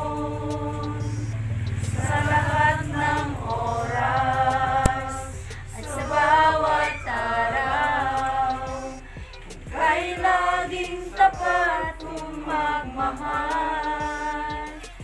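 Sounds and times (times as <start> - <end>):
group singing unaccompanied: 0.0 - 15.0.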